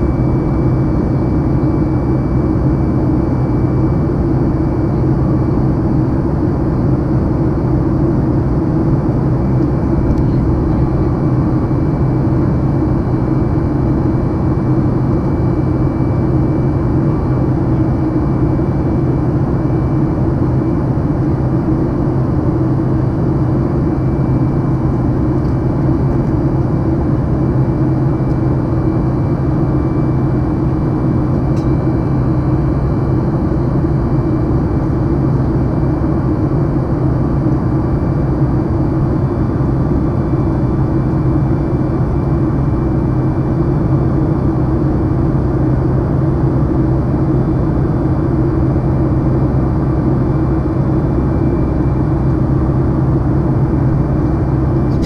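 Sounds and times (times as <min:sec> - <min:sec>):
jet engine drone: 0:00.0 - 0:55.0.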